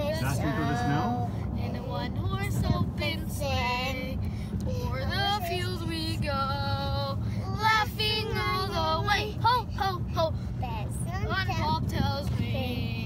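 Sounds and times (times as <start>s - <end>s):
low road noise in car: 0.0s - 13.0s.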